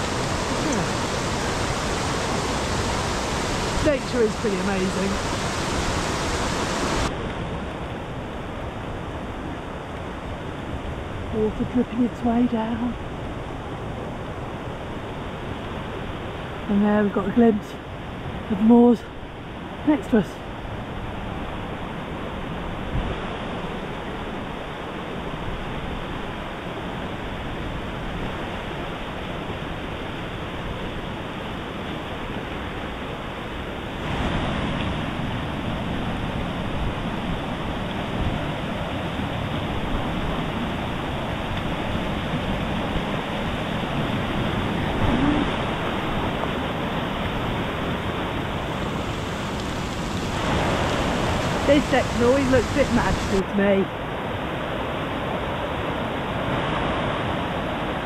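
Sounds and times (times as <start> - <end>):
water rushing over rocks: 0.0 - 11.3, 21.0 - 58.0.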